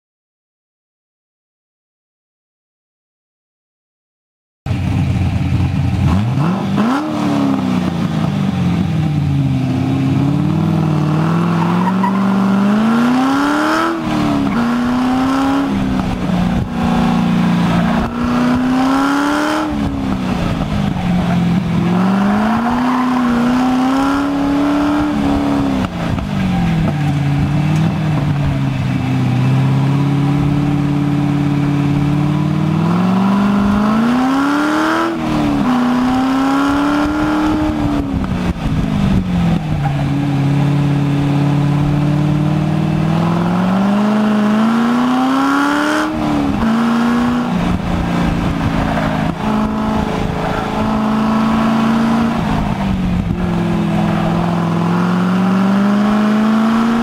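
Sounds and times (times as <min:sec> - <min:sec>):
engine revving: 0:04.7 - 0:57.0.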